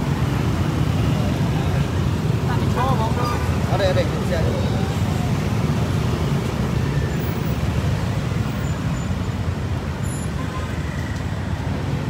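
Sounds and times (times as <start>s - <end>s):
passing motorbikes and vehicles: 0.0s - 12.0s.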